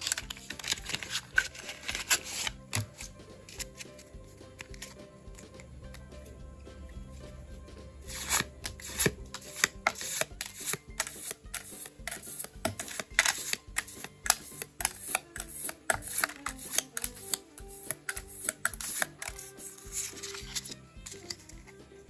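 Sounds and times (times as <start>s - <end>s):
trading cards clicking and sliding: 0.0s - 6.2s, 8.0s - 21.9s
faint background music: 0.0s - 22.0s.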